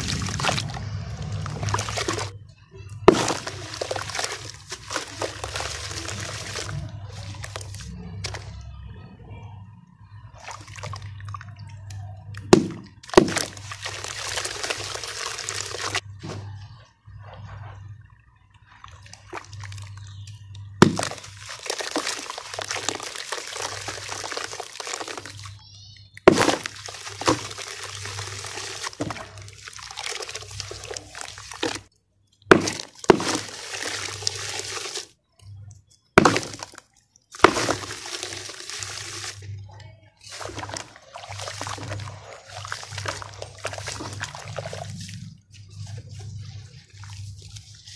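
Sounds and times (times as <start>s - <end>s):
hands sloshing wet dirt in water: 0.0s - 2.4s, 3.0s - 8.6s, 10.3s - 16.0s, 17.1s - 25.6s, 26.2s - 31.9s, 32.5s - 35.5s, 36.1s - 47.9s.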